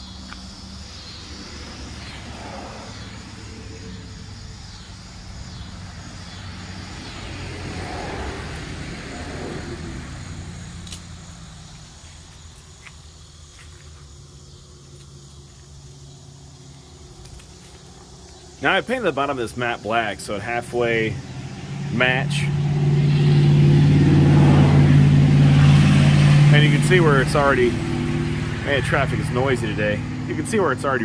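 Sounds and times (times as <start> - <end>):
vehicle passing by: 0.0 - 12.6, 18.4 - 31.0
insects chirring: 0.0 - 31.0
low traffic hum: 0.0 - 31.0.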